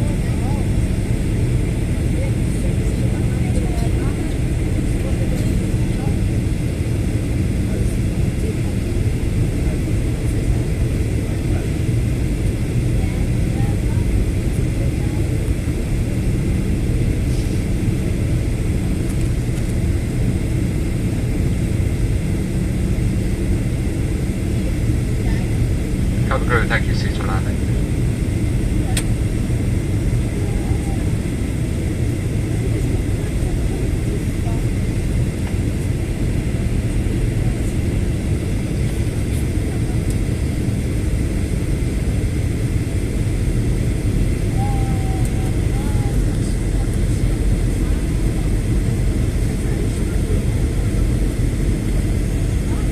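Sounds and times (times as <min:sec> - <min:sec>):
airliner cabin engine rumble: 0:00.0 - 0:52.9.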